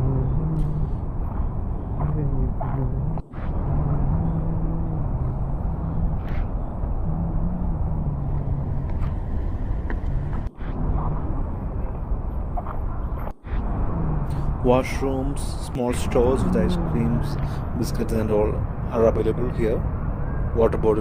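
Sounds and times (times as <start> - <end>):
low rumbling noise: 0.0 - 21.0.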